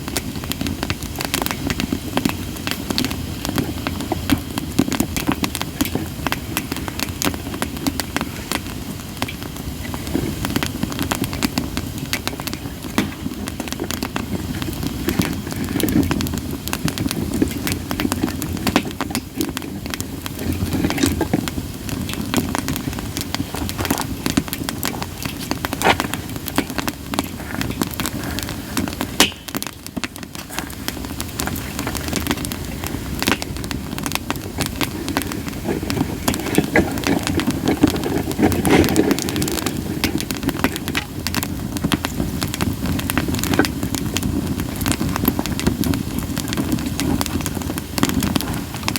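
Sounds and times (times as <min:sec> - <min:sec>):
campfire crackling and popping: 0:00.0 - 0:48.9
flames rushing: 0:00.0 - 0:48.9.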